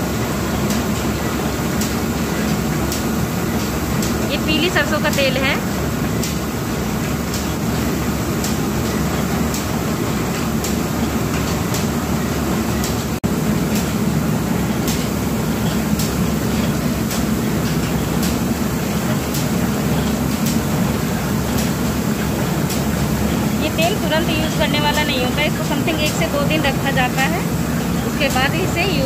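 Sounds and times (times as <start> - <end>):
oil press mechanical rumble: 0.0 - 29.0.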